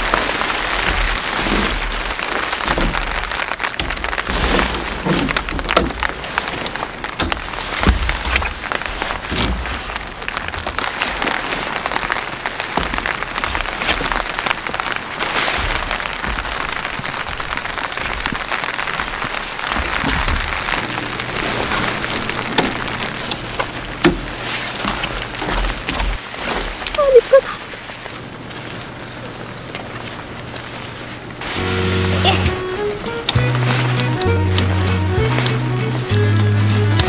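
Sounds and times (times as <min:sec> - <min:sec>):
plastic poncho rustling: 0:00.0 - 0:37.0
rain pattering: 0:00.0 - 0:37.0.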